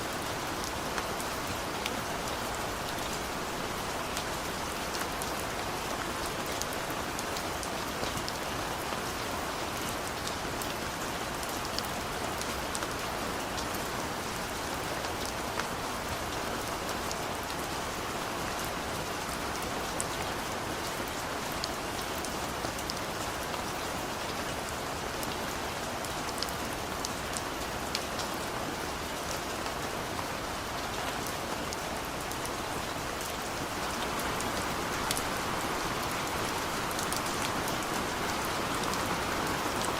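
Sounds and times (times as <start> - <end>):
steady rain hiss: 0.0 - 39.9
raindrops ticking on surfaces: 0.1 - 39.9.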